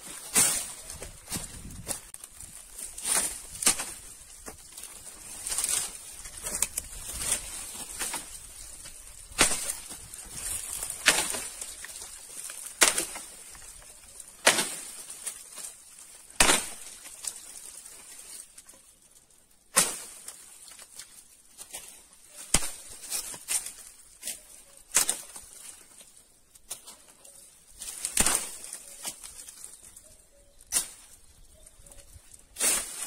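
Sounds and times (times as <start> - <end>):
leaves rustling: 0.0 - 33.0
twigs crackling: 0.0 - 33.0
axe chopping branches: 0.1 - 18.4, 19.7 - 27.1, 27.8 - 29.8, 30.7 - 31.2, 32.5 - 33.0.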